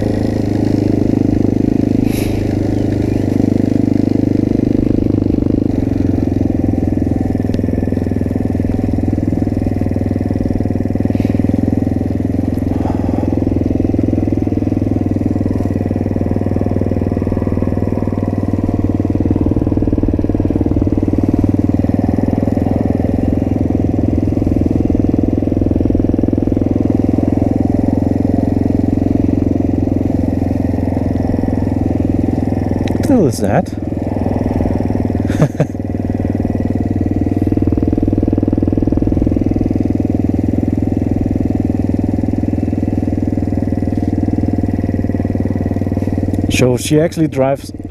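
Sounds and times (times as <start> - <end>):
small motorcycle engine running: 0.0 - 47.9.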